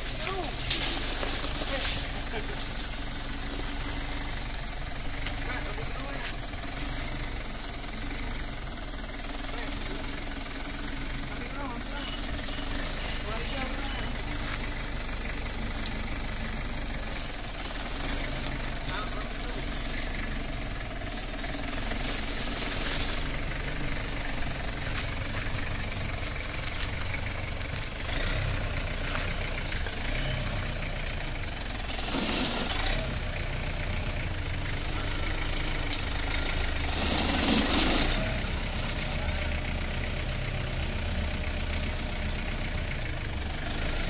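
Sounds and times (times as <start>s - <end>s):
diesel tractor engines under load: 0.0s - 44.0s.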